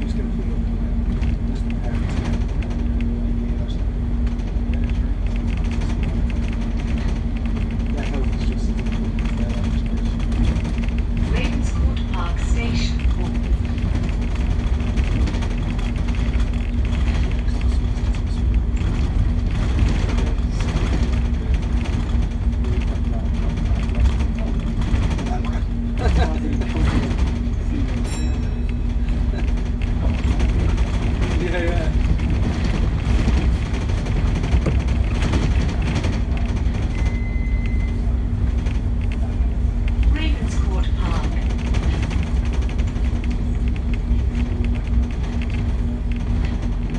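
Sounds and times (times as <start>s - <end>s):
bus drivetrain and road rumble: 0.0s - 46.9s
constant hum: 0.0s - 46.9s.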